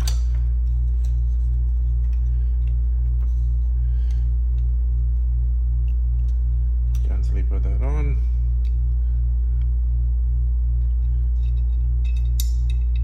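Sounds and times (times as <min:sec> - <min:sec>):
pulsing electrical hum: 0:00.0 - 0:13.0.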